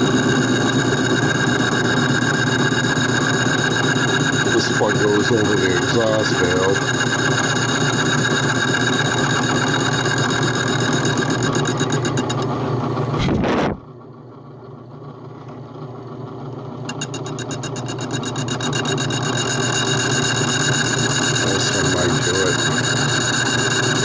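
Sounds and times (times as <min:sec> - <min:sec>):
machine tool motor running: 0:00.0 - 0:13.7, 0:15.2 - 0:24.0.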